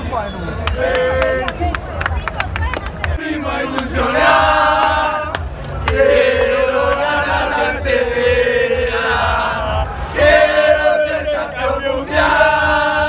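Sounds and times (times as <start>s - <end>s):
football fans chanting: 0.4s - 1.9s, 3.0s - 13.0s.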